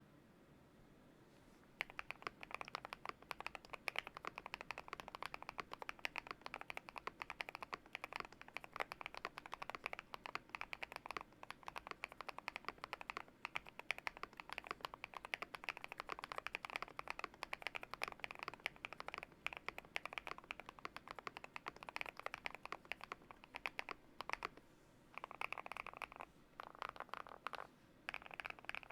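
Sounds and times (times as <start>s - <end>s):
mechanical keyboard typing: 1.8s - 24.6s, 25.2s - 28.9s.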